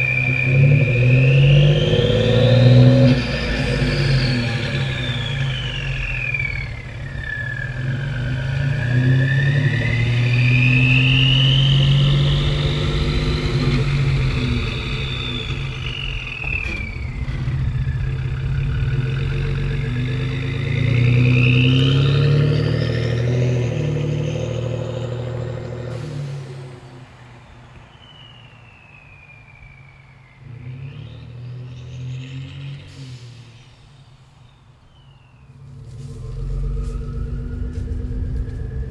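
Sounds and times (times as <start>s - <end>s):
high turbo whistle: 0.0s - 38.9s
truck engine revving: 0.0s - 38.9s.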